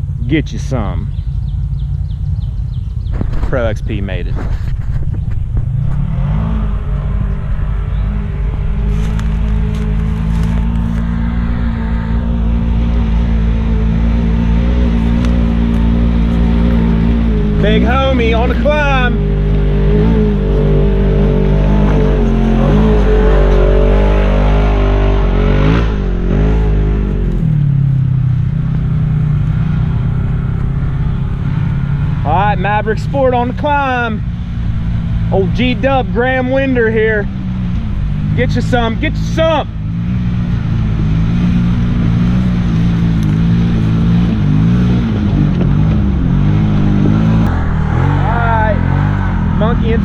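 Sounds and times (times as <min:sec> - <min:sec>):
utility vehicle engine revving: 0:00.0 - 0:50.0.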